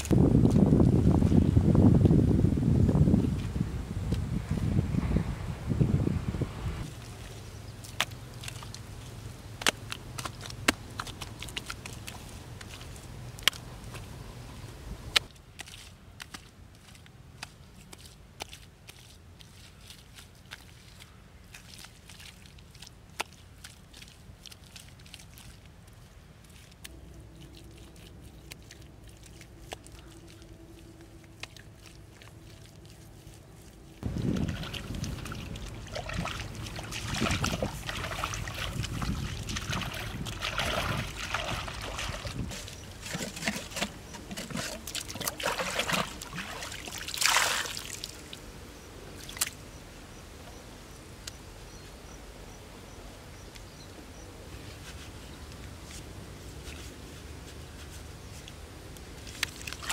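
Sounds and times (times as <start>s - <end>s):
mud and water splashing: 0.0s - 1.5s, 6.8s - 50.6s, 53.3s - 59.9s.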